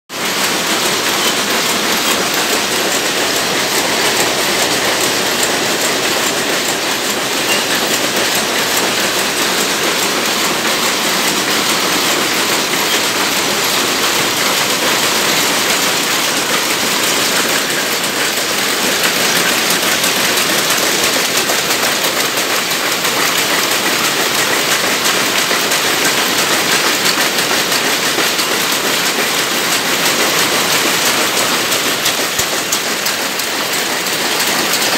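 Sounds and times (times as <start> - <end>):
looms clattering: 0.2 - 34.9.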